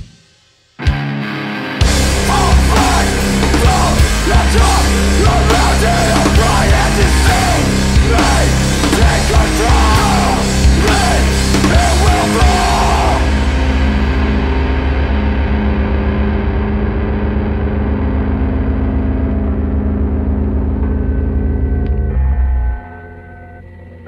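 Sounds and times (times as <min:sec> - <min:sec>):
hardcore punk band playing: 0:00.0 - 0:22.9.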